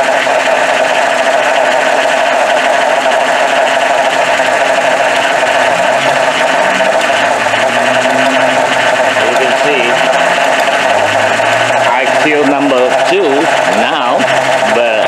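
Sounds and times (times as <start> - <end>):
engine idling rough and misfiring: 0.0 - 15.0.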